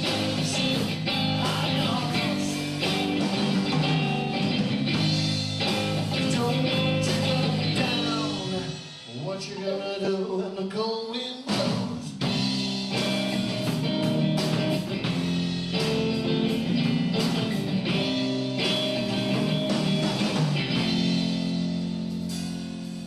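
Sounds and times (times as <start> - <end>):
sustained guitar chords: 0.0 - 8.9, 12.3 - 23.0
steady drum beat: 0.0 - 9.6, 11.5 - 23.0.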